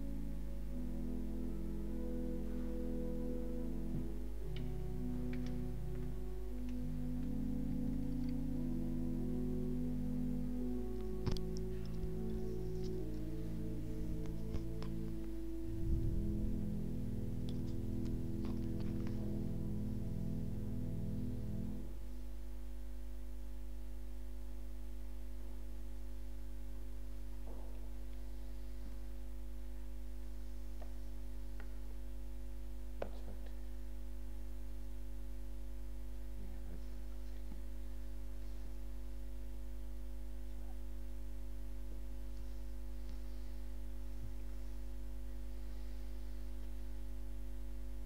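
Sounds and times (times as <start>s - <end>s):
electrical mains hum: 0.0s - 48.0s
music: 0.0s - 48.0s.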